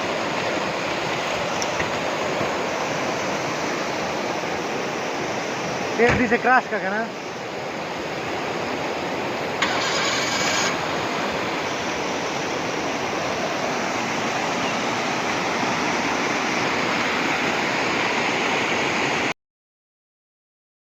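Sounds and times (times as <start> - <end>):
rushing water: 0.0 - 19.3.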